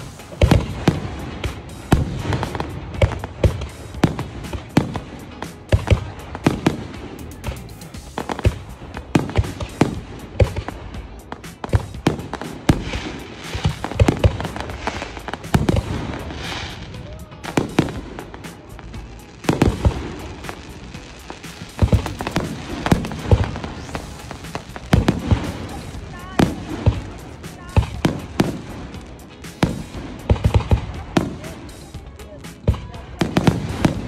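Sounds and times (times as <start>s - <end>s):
fireworks shells bursting: 0.0s - 34.0s.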